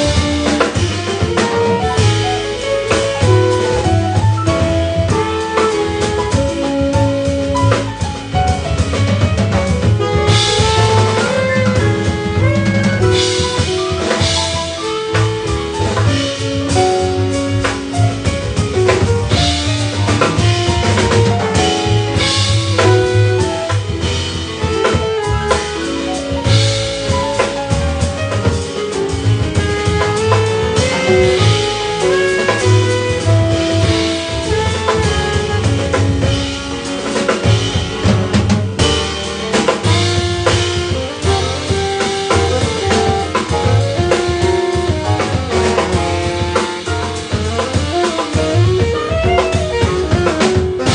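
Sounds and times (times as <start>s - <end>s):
drum kit with cymbals: 0.0s - 50.9s
jazz band playing: 0.0s - 50.9s
saxophone melody: 0.0s - 50.9s.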